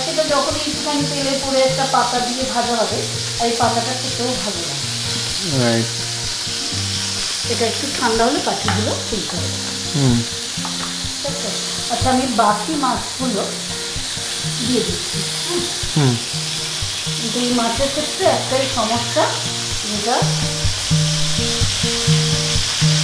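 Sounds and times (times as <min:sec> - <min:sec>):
background music with melody: 0:00.0 - 0:23.0
fritters sizzling in hot oil: 0:00.0 - 0:23.0.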